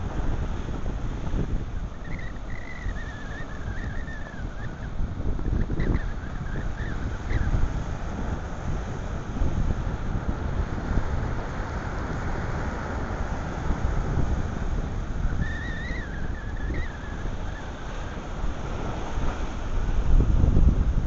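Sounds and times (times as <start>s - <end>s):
wind gusting across microphone: 0.0s - 21.0s.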